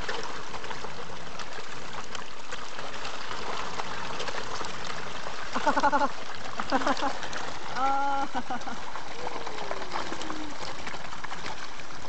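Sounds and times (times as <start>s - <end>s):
fish splashing at water surface: 0.0s - 12.0s.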